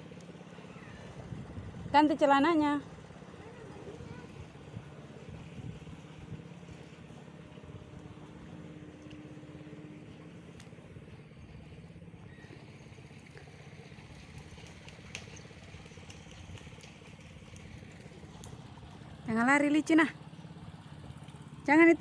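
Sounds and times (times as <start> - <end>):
engine running with low pulse: 0.0 - 22.0.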